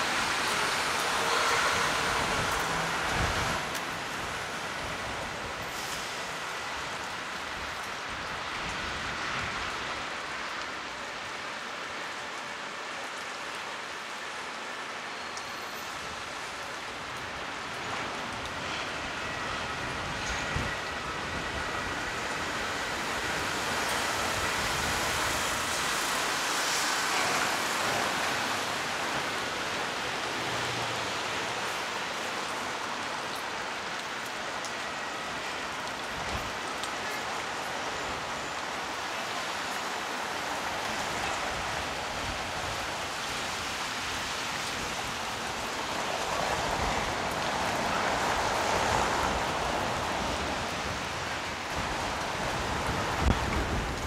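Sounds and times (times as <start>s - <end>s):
heavy rain on pavement: 0.0s - 54.0s.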